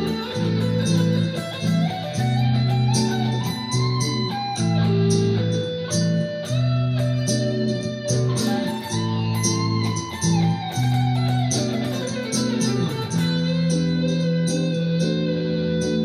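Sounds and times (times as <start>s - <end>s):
synthesized electric guitar melody: 0.0s - 16.0s.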